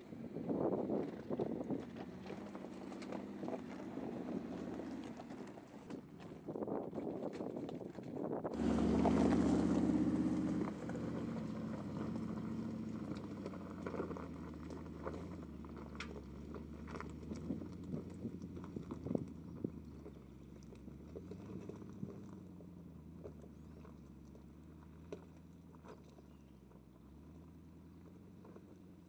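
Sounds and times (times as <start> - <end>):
suv engine at low speed: 0.0 - 29.0
stones crunching under tyres: 0.5 - 29.0.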